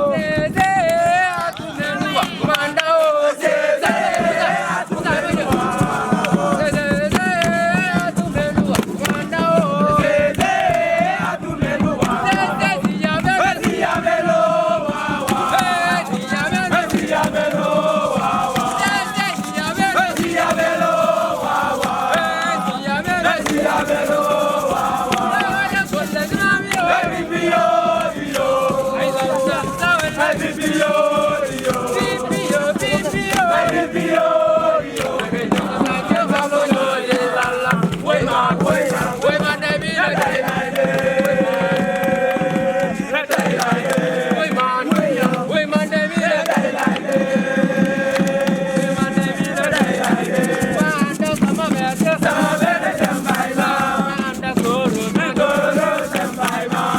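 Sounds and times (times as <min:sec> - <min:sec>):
young voices chanting in unison: 0:00.0 - 0:56.9
sharp beats: 0:00.1 - 0:56.9.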